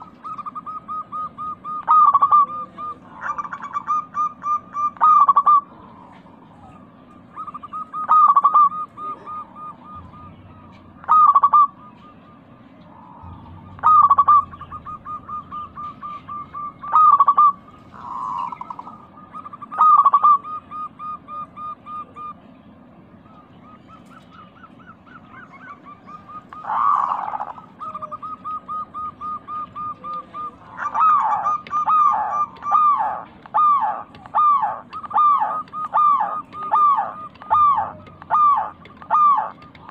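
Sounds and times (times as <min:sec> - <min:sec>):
dove cooing: 0:00.0 - 0:22.4, 0:23.1 - 0:39.9.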